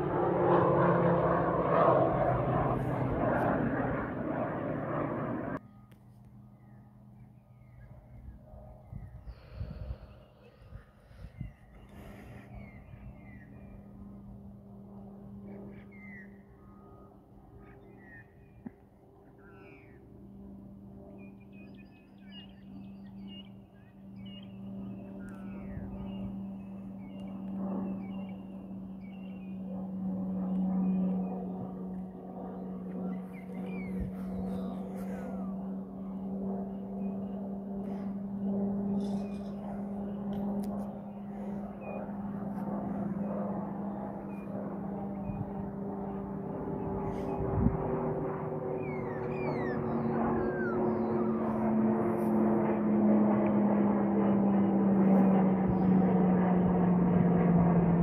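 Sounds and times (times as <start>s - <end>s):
aircraft flying overhead: 0.0s - 58.0s.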